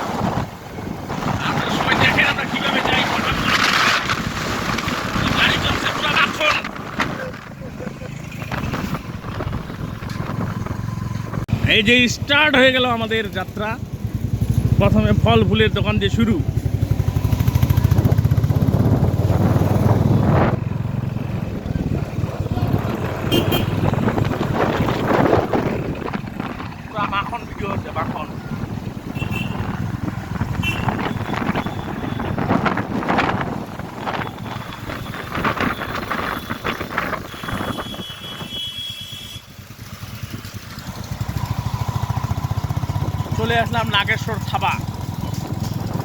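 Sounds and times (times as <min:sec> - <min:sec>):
wind buffeting microphone: 0:00.0 - 0:12.3, 0:16.4 - 0:38.7, 0:39.8 - 0:43.4, 0:44.8 - 0:46.0
motorcycle engine running: 0:06.6 - 0:46.0.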